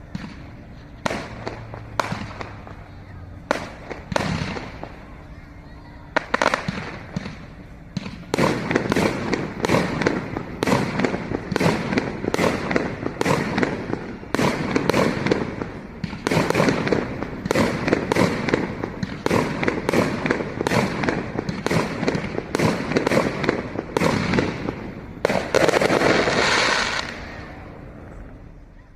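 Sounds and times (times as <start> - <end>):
fireworks bangs: 0.0 - 28.8
fireworks crackling: 0.0 - 28.9.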